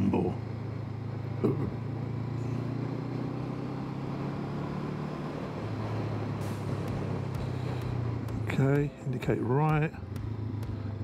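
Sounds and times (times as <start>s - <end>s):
motorcycle engine humming: 0.0s - 11.0s
wind and road noise: 0.0s - 11.0s.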